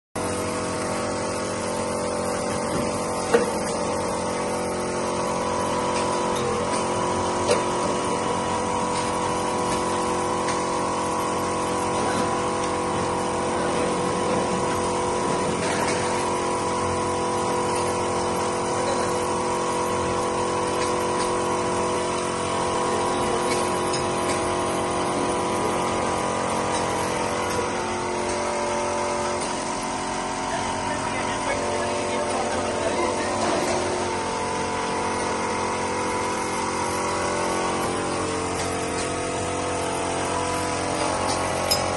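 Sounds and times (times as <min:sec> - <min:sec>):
filling machinery humming: 0:00.2 - 0:41.9.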